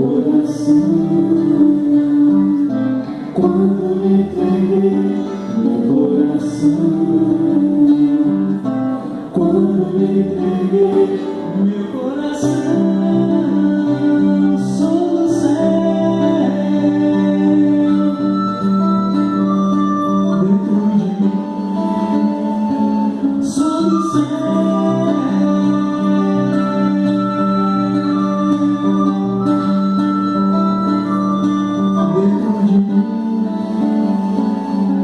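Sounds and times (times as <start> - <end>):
man and woman singing duet: 0.0 - 19.2, 20.2 - 29.3, 32.0 - 34.5
guitar: 0.0 - 35.0.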